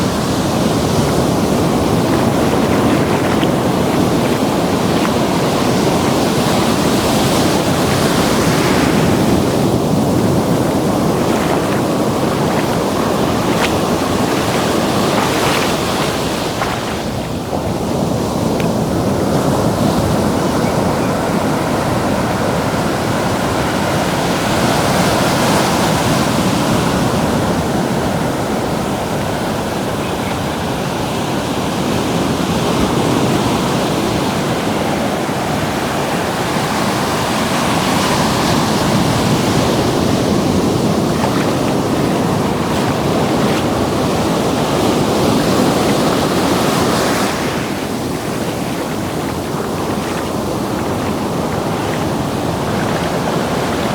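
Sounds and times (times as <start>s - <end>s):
ocean surf washing: 0.0s - 53.9s
wind on microphone: 0.0s - 53.9s.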